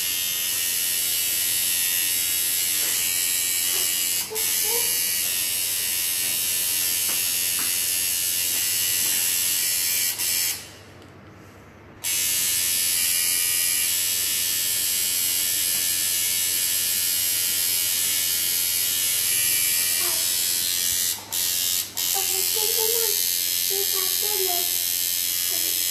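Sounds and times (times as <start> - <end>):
tattoo machine buzzing: 0.0 - 10.8, 12.0 - 25.9.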